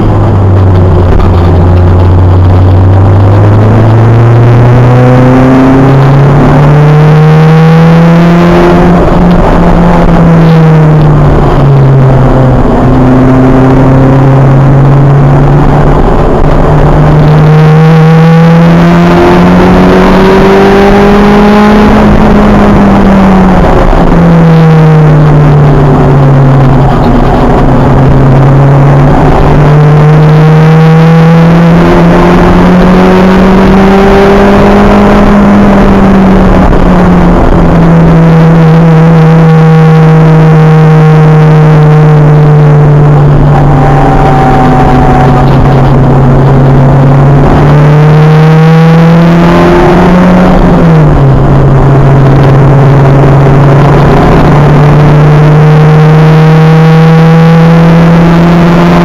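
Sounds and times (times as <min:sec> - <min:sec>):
race car engine revving: 0:00.0 - 0:59.0
wind noise: 0:00.0 - 0:59.0.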